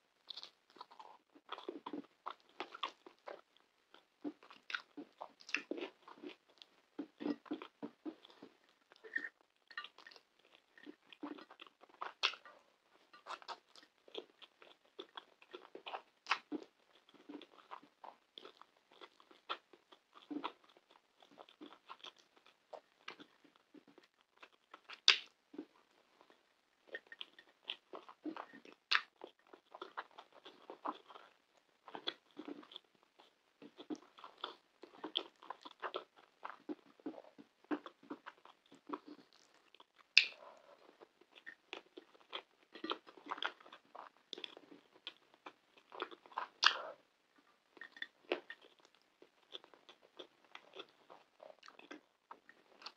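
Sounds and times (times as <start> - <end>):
wet chewing and lip-smacking: 0.2 - 52.9.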